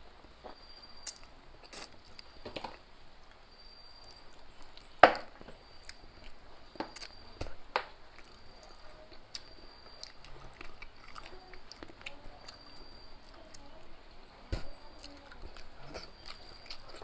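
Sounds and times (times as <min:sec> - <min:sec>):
soft chewing: 0:00.1 - 0:17.0.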